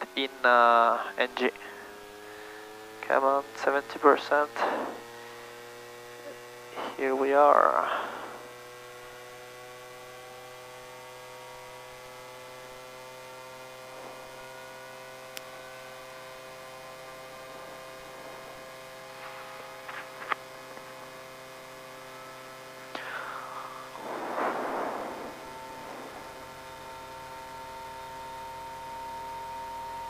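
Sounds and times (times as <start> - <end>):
helicopter engine humming: 0.0 - 30.0.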